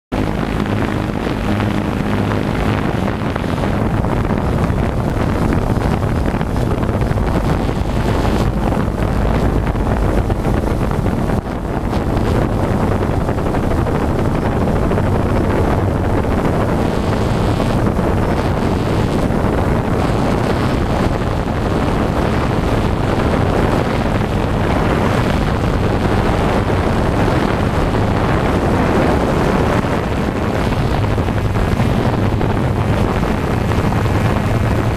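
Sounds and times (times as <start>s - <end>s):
wind noise on microphone: 0.0s - 34.9s
drone propellers humming: 0.1s - 34.9s.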